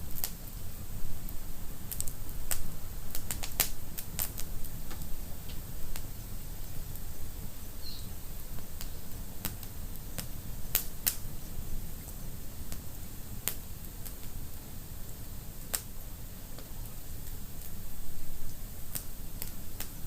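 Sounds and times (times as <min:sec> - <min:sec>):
low rumble of flames: 0:00.0 - 0:20.0
wood fire crackling: 0:00.0 - 0:20.0
sharp pops of fire: 0:00.1 - 0:00.6, 0:01.2 - 0:07.1, 0:08.4 - 0:14.4, 0:15.0 - 0:17.8, 0:18.5 - 0:20.0.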